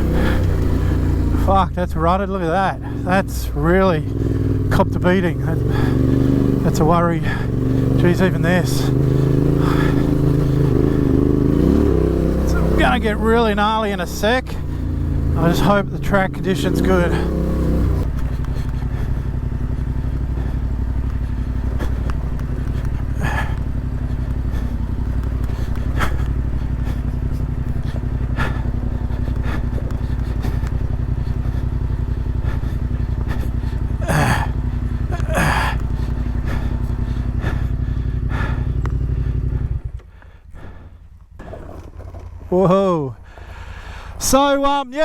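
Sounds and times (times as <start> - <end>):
motorcycle engine idling: 0.0 - 44.8.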